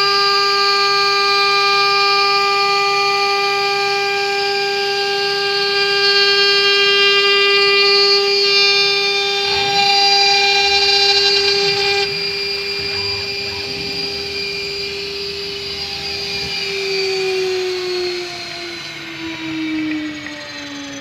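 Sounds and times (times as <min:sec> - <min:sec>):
milling spindle whining: 0:02.1 - 0:21.0.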